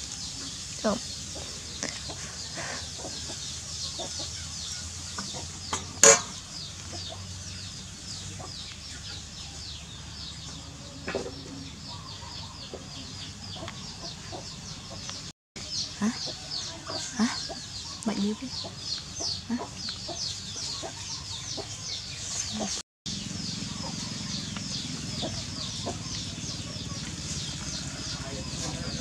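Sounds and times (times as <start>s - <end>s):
many birds chirping: 0.0s - 29.0s.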